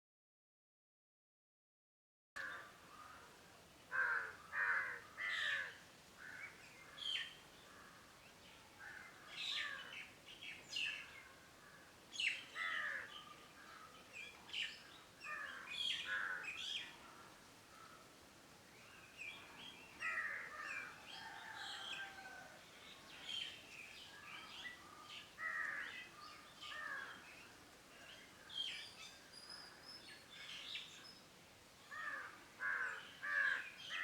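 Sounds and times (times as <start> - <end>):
faint background noise: 2.4 - 34.0.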